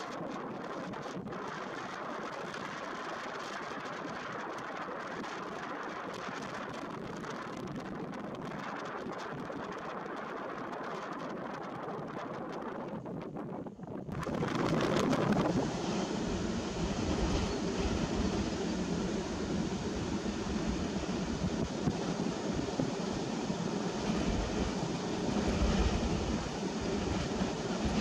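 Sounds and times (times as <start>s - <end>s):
wind on microphone: 0.0s - 28.0s.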